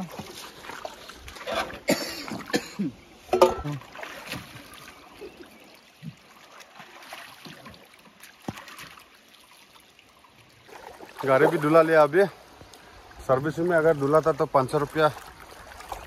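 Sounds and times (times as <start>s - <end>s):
river flowing: 0.0s - 16.0s
water splashing and trickling: 0.0s - 16.0s.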